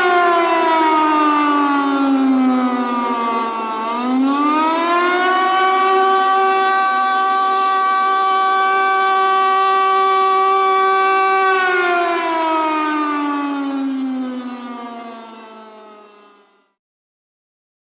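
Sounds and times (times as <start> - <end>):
warning siren wail: 0.0 - 16.8.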